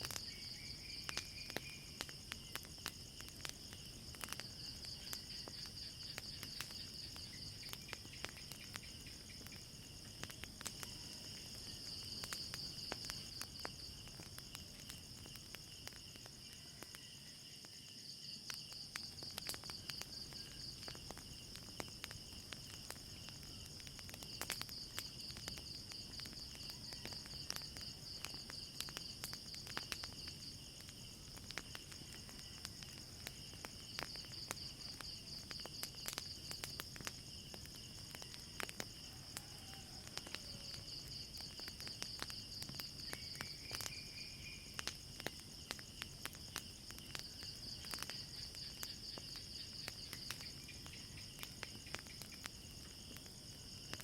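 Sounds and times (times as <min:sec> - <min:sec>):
crickets chirping: 0:00.0 - 0:54.0
wood fire crackling: 0:00.0 - 0:54.0.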